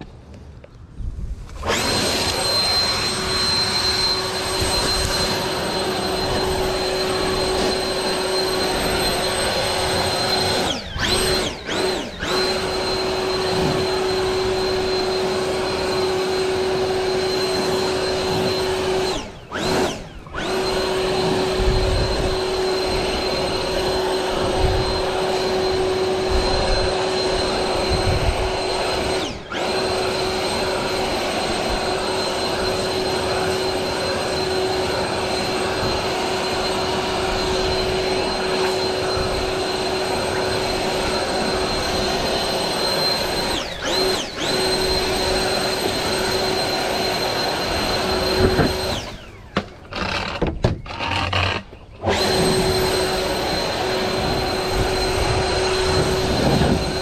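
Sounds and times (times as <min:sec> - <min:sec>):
leaf blower whine: 0:00.0 - 0:57.0.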